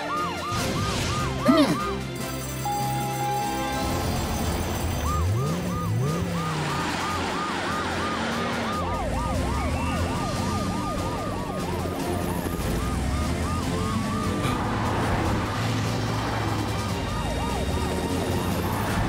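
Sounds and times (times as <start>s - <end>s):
cartoon sirens wailing: 0.0s - 19.0s.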